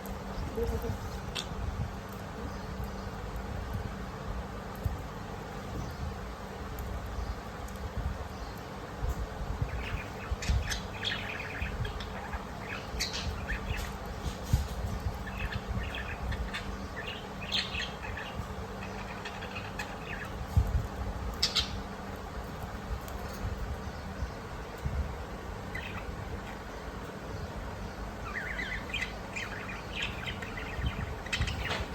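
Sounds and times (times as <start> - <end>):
parakeets chirping: 0.1 - 3.7, 5.0 - 31.9.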